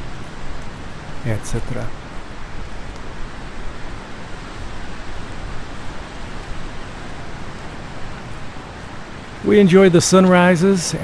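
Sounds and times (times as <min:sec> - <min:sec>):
surf rushing: 0:00.0 - 0:11.0
wind: 0:00.0 - 0:11.0.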